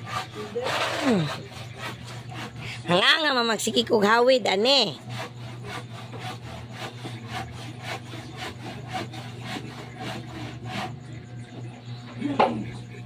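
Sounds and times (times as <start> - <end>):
hand saw cutting wood: 0.0 - 11.1
steady low hum: 0.0 - 13.0.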